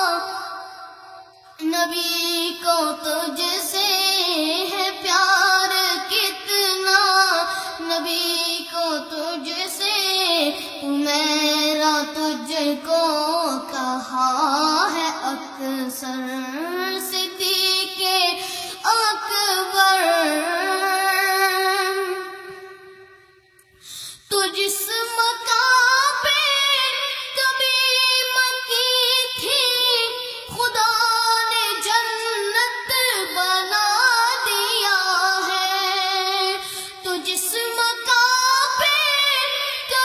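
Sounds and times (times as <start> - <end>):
boy singing into a microphone: 0.0 - 23.1, 23.8 - 40.0.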